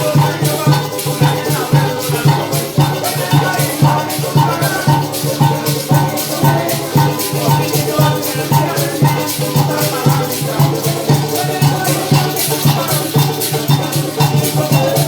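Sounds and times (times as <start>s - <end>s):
shakers: 0.0s - 15.0s
strummed strings: 0.0s - 15.0s.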